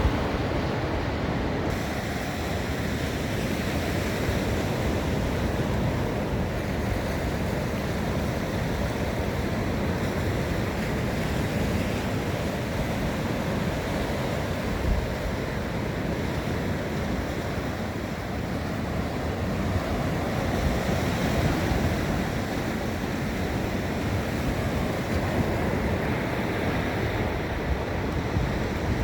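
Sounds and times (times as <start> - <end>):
surf breaking on beach: 0.0 - 29.0.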